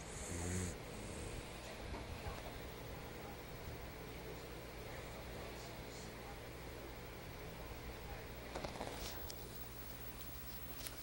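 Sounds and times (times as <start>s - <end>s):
faint room tone hiss: 0.0s - 11.0s.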